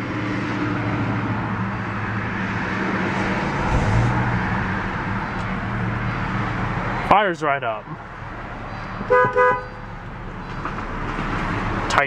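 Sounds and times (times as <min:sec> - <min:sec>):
car engine idling: 0:00.5 - 0:12.0.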